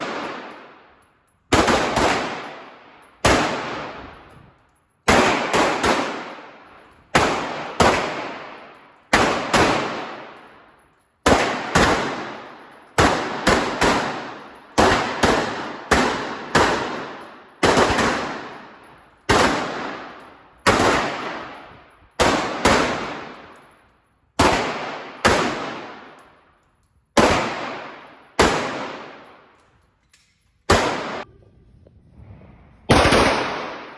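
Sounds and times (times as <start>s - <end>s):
pistol shots with echo: 0.0s - 4.4s, 5.0s - 29.6s, 30.6s - 31.3s, 32.9s - 33.9s.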